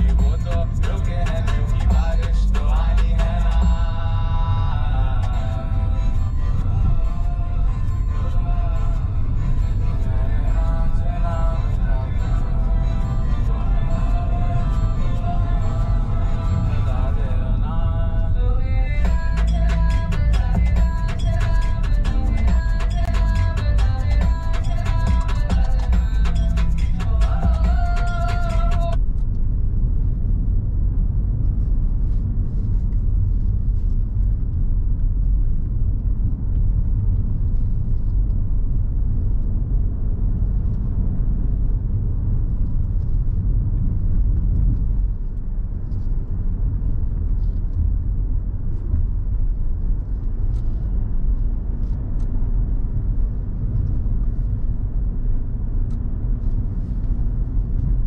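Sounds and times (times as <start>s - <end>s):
road rumble: 0.0s - 58.0s
wind: 0.0s - 58.0s.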